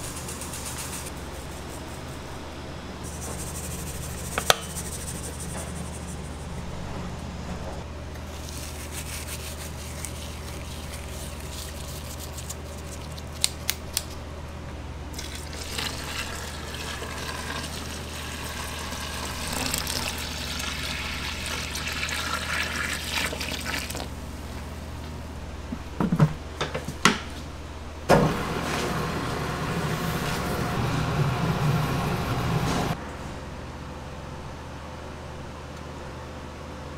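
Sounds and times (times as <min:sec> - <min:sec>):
steady low hum: 0:00.0 - 0:20.6, 0:27.3 - 0:36.9.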